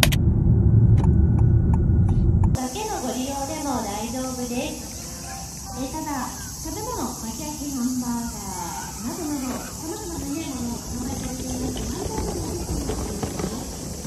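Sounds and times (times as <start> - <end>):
high-pitched insect chorus: 2.6 - 14.0
people talking: 2.6 - 14.0.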